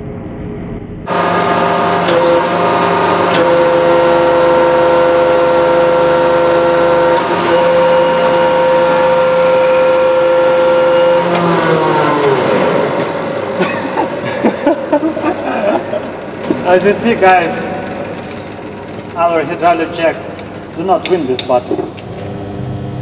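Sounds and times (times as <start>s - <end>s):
hydraulic pump motor whining: 1.1s - 23.0s.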